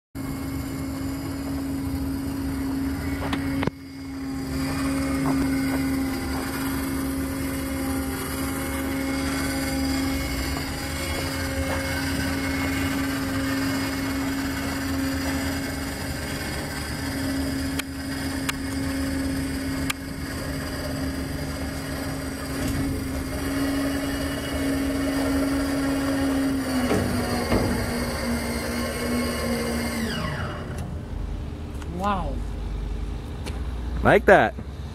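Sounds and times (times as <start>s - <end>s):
electric motor humming: 0.2s - 31.9s.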